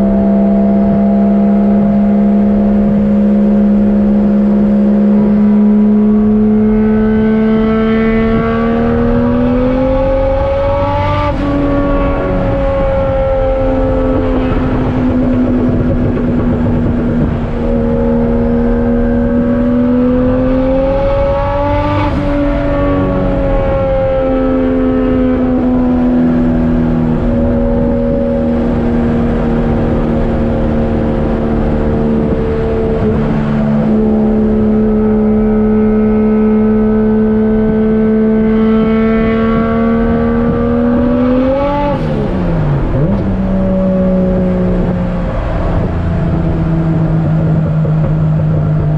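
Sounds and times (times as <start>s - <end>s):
turbocharged engine revving: 0.0s - 48.9s.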